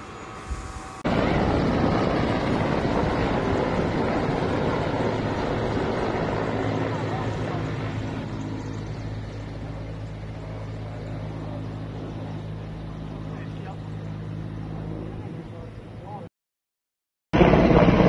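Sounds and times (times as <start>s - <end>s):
low engine hum: 0.0s - 16.3s.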